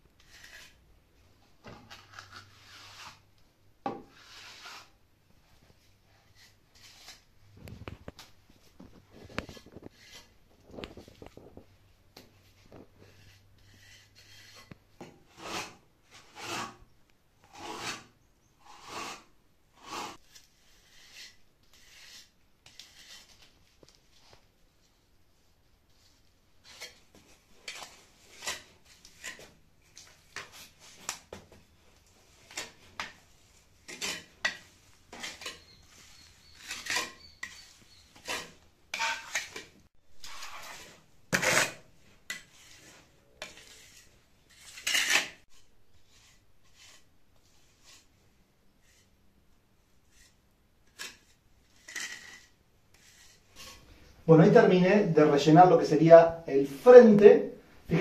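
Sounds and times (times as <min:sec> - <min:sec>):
trowel scraping plaster: 0:00.2 - 0:00.8, 0:01.7 - 0:03.3, 0:04.0 - 0:05.0, 0:05.7 - 0:11.4, 0:12.4 - 0:24.0, 0:26.1 - 0:48.2, 0:48.8 - 0:49.2, 0:50.0 - 0:53.9.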